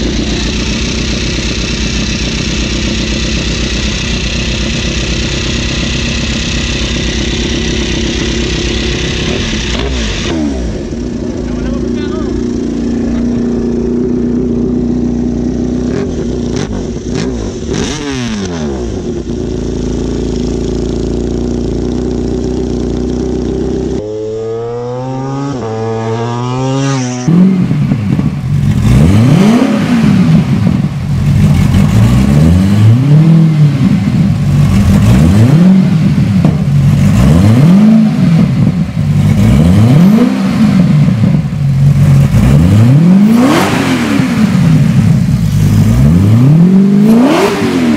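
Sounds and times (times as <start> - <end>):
motorcycle engine idling and revving: 0.0 - 47.9.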